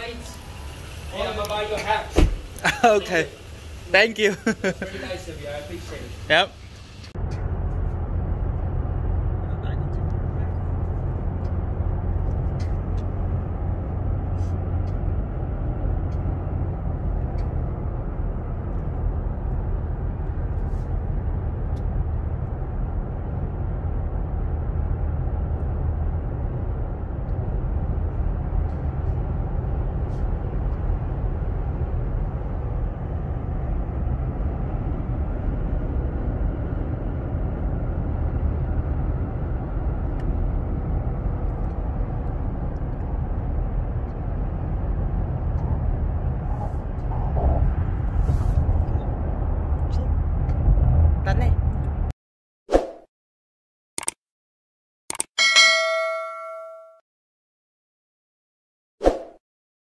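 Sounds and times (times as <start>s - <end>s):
road and engine noise in cabin: 0.0s - 52.2s.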